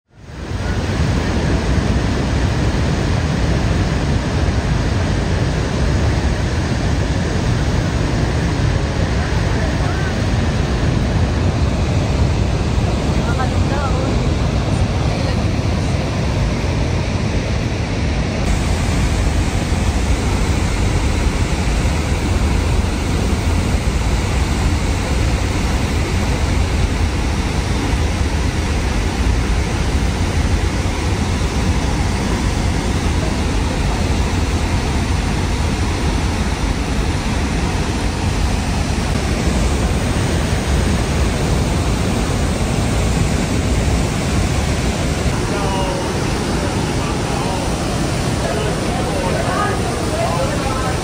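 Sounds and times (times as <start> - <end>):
waterfall rushing: 0.1 - 51.0.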